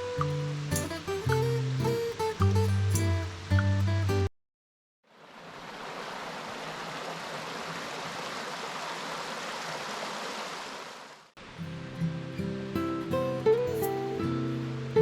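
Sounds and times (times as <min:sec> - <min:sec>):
stream water flowing: 0:00.0 - 0:03.6, 0:05.1 - 0:15.0.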